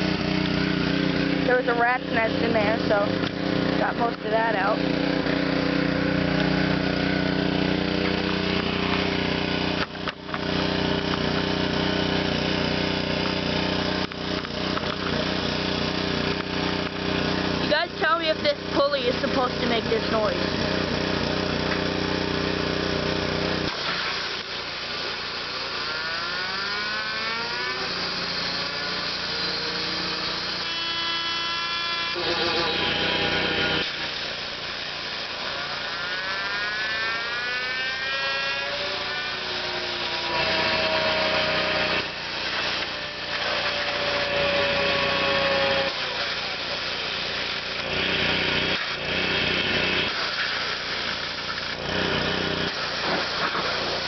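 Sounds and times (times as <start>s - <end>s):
belt pulley whine: 0.0s - 54.0s
mower running: 0.0s - 54.0s.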